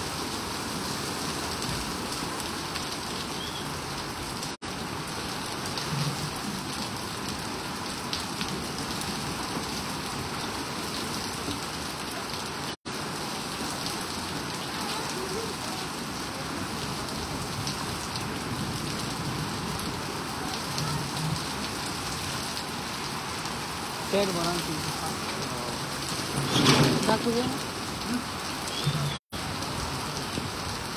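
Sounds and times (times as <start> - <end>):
heavy rain splashing on street: 0.0 - 30.9.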